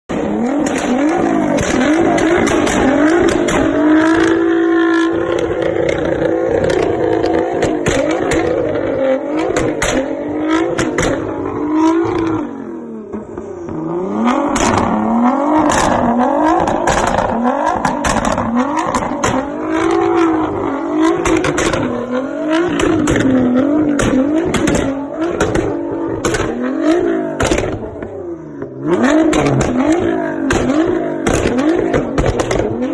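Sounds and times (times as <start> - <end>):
exhaust pops and cracks: 0.1 - 11.4, 14.5 - 15.0, 15.6 - 32.9
car engine revving: 0.1 - 32.9.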